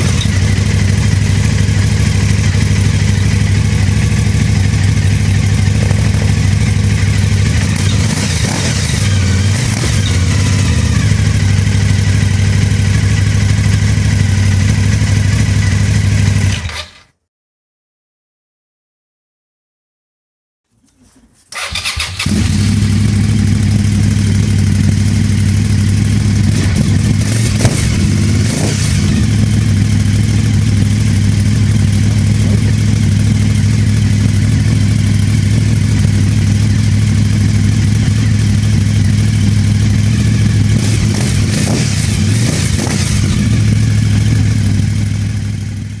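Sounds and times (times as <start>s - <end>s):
motorcycle engine idling and revving: 0.0s - 17.0s, 21.6s - 46.0s.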